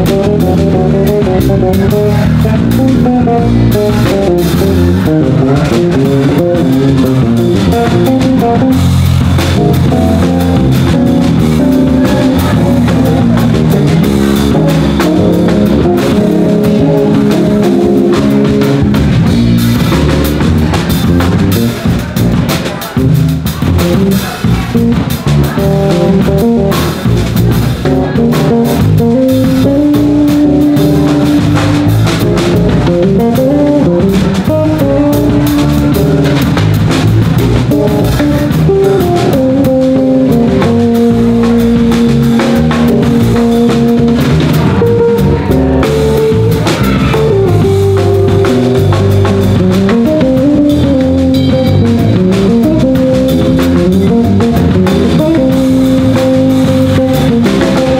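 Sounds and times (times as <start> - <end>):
electric bass accompaniment: 0.0 - 57.9
melodic electric bass line: 0.0 - 57.9
steady drum groove: 0.0 - 57.9.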